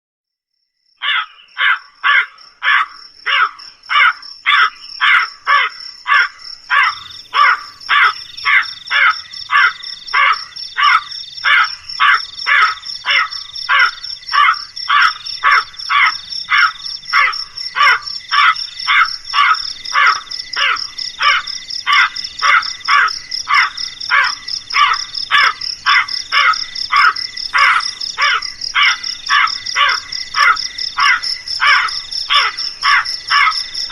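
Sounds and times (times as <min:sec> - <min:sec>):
crows cawing: 0:01.0 - 0:33.9.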